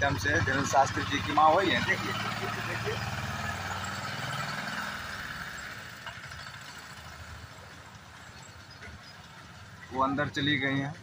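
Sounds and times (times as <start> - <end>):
vehicle engine running at low revs: 0.0 - 9.8.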